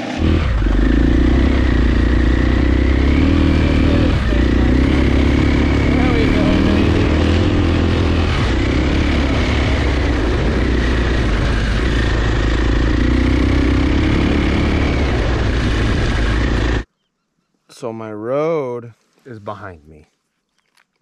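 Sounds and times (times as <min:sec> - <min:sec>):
dirt bike engine running: 0:00.0 - 0:16.9.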